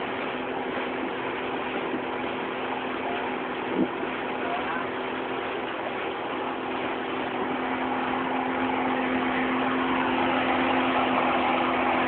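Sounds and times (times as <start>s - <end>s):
motorboat engine humming: 0.0s - 12.0s
rushing water noise: 0.0s - 12.0s.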